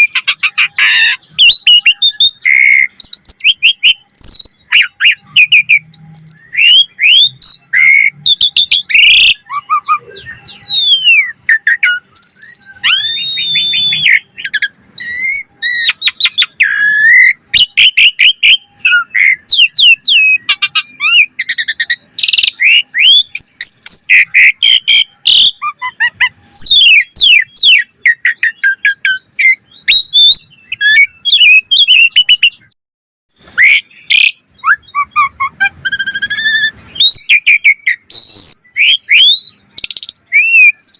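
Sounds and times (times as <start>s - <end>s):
starling singing varied song: 0.0s - 32.7s, 33.4s - 40.9s.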